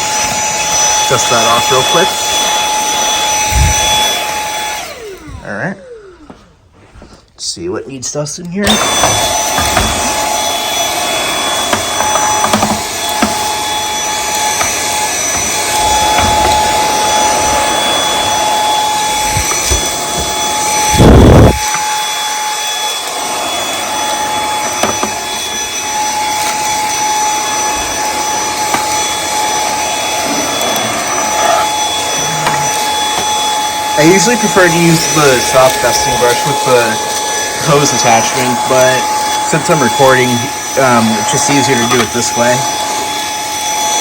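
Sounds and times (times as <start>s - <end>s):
handheld vacuum motor whine: 0.0s - 6.7s, 8.5s - 44.0s.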